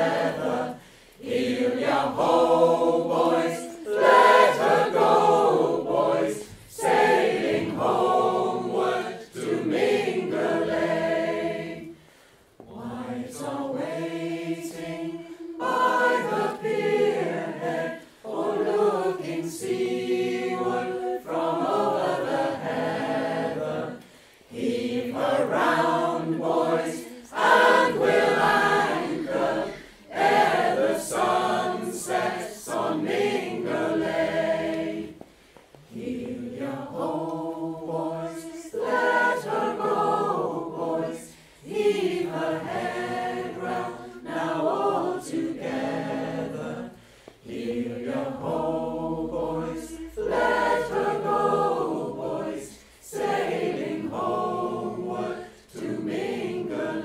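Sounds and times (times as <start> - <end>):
choir singing unaccompanied: 0.0 - 57.0.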